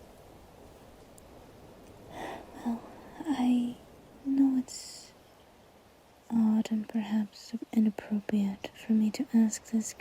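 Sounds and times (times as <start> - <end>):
soft outdoor background hiss: 0.0 - 10.0.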